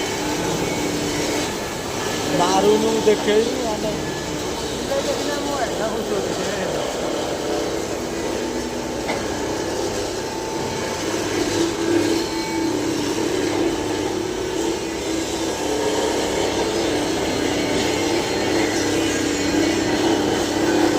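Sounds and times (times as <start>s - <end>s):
machine humming: 0.0s - 20.9s.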